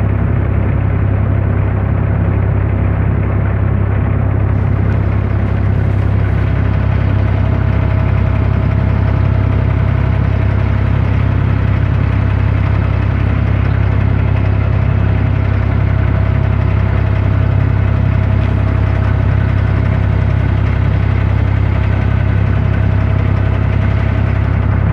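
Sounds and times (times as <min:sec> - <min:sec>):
boat diesel engine droning: 0:00.0 - 0:24.9.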